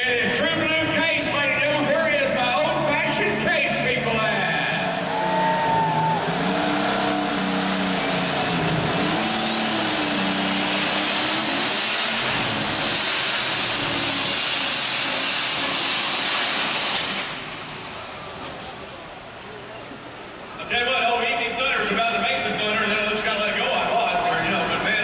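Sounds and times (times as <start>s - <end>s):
tractor engine running hard: 0.0s - 20.6s.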